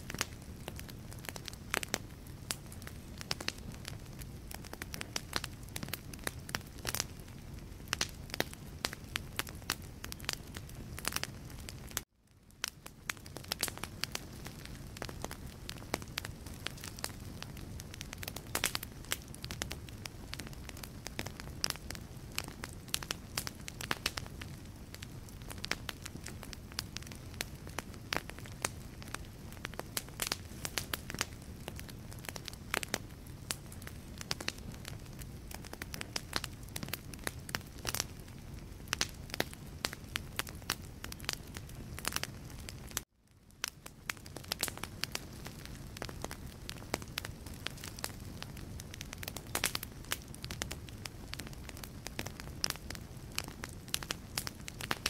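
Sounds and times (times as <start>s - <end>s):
logs crackling in fireplace: 0.0s - 55.0s
low rumble of flame: 0.0s - 55.0s.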